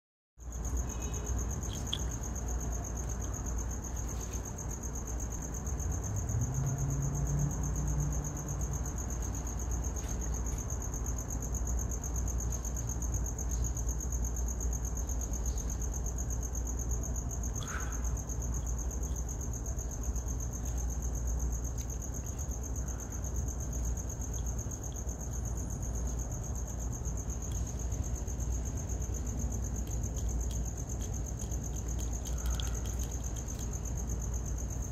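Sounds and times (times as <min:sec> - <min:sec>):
night insects chirping: 0:00.4 - 0:34.9.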